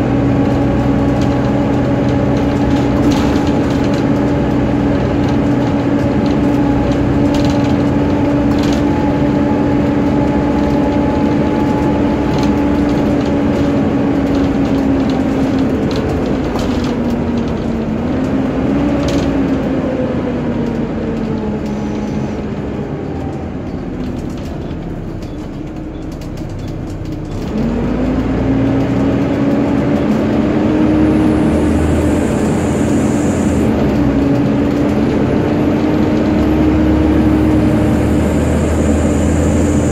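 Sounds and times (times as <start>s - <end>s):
bus cooling fan whining: 0.0s - 39.9s
bus engine running: 0.0s - 39.9s.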